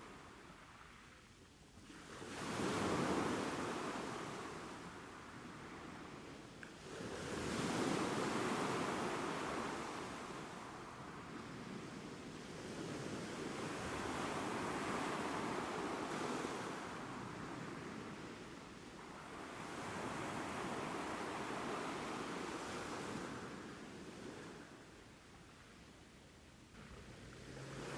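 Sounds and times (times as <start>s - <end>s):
ocean waves breaking on shore: 1.8s - 25.8s, 26.8s - 27.9s.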